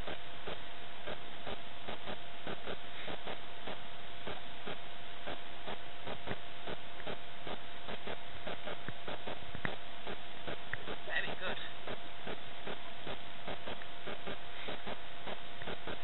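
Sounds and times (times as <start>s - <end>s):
thin electronic whine: 0.0s - 16.0s.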